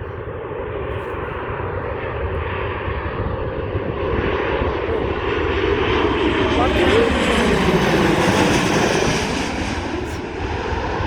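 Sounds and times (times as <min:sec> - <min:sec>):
jet airliner engine noise: 0:00.0 - 0:11.0.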